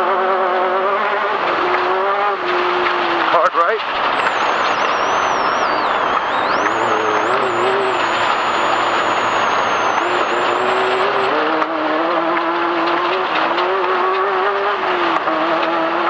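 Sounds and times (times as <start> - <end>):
off-road vehicle engine running: 0.0 - 16.0
road and wind noise: 0.0 - 16.0.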